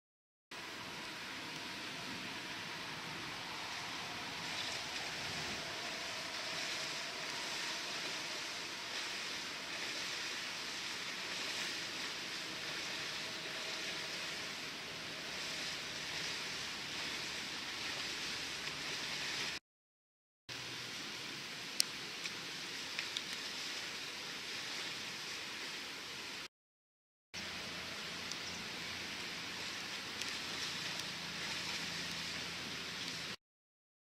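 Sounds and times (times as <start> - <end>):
steady rushing hiss: 0.6 - 19.6, 20.5 - 26.5, 27.4 - 33.4.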